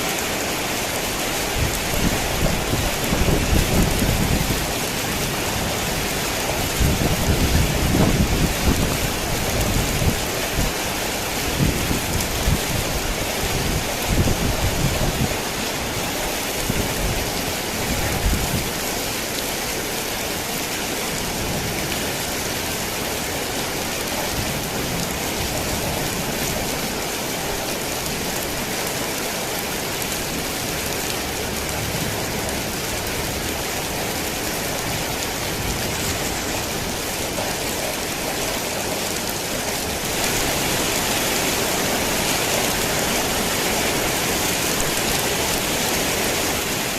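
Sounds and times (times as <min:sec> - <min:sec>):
heavy rain on a tin roof: 0:00.0 - 0:46.9.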